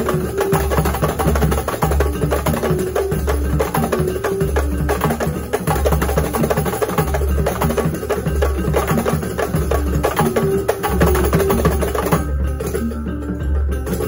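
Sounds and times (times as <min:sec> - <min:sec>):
frame drums fast rhythm: 0:00.0 - 0:13.0.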